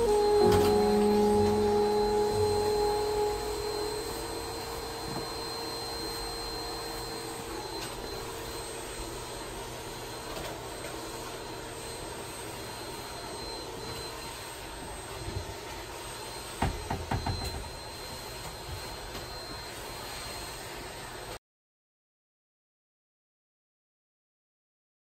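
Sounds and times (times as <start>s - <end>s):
vacuum cleaner running: 0.0s - 21.4s.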